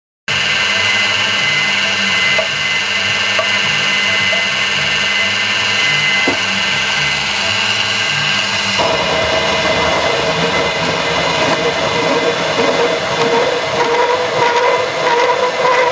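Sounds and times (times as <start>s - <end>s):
drill press motor whine: 0.3s - 15.9s.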